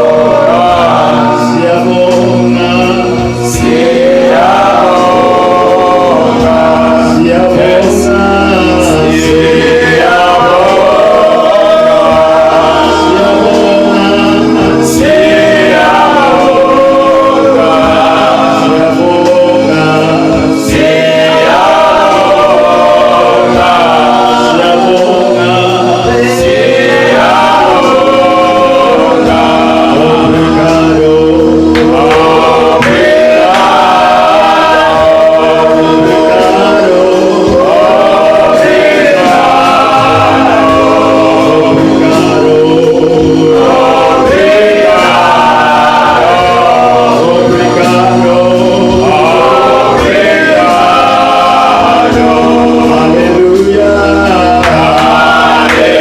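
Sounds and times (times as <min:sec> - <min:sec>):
choir singing gospel: 0:00.0 - 0:56.0.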